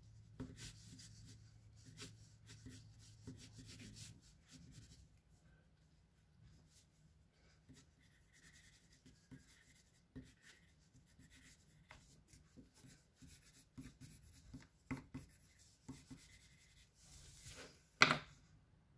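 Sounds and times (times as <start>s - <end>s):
pencil scratching on paper: 0.1s - 5.0s, 6.4s - 17.6s.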